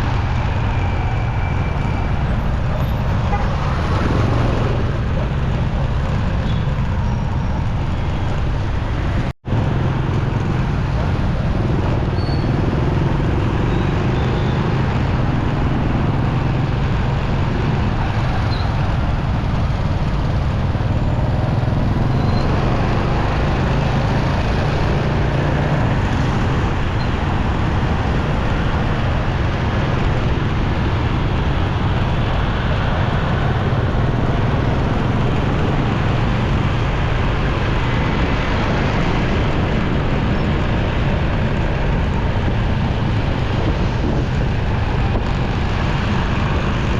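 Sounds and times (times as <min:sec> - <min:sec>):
motorcycle engine: 0:00.0 - 0:46.9
road and wind noise: 0:00.0 - 0:46.9
surrounding traffic: 0:00.0 - 0:46.9.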